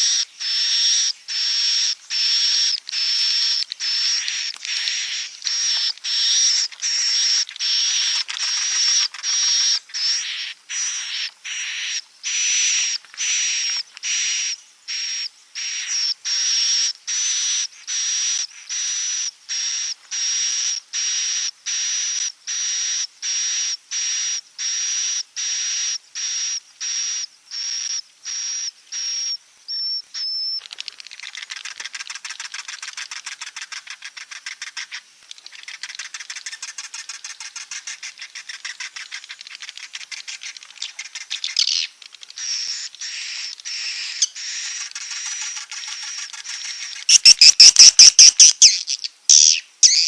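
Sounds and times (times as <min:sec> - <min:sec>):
swiftlet chirps and twitter: 0:00.0 - 0:21.9, 0:22.5 - 0:50.0.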